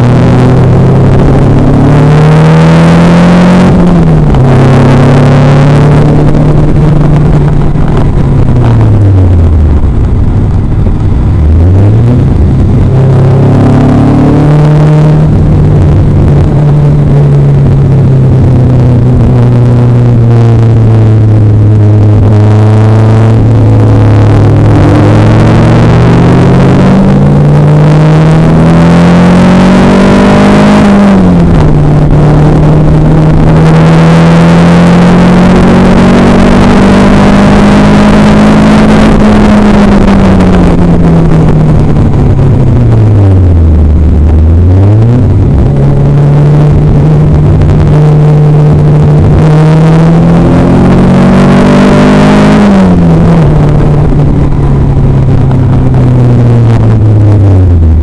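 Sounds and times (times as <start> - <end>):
sports car engine accelerating: 0.0 - 58.0.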